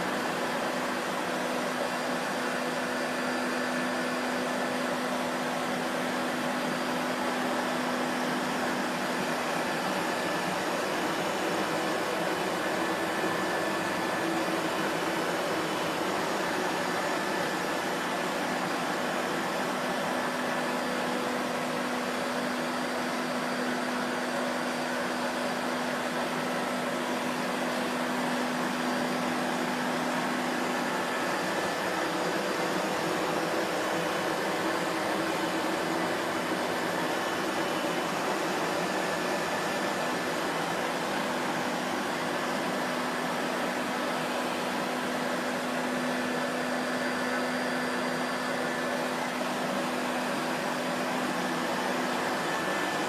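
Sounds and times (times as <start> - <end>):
vacuum cleaner motor running: 0.0 - 53.0.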